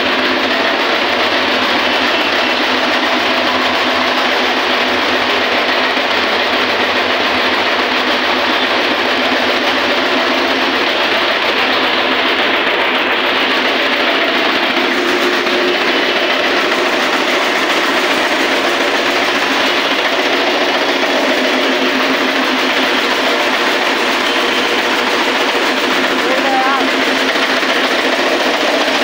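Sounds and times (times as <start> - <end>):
flour mill running: 0.0 - 29.0.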